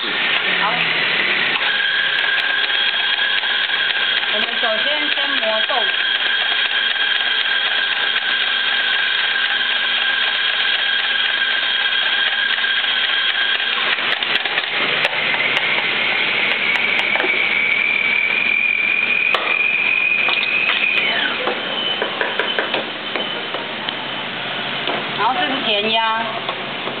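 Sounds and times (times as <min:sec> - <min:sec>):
coffee grinder whining: 0:00.0 - 0:22.6.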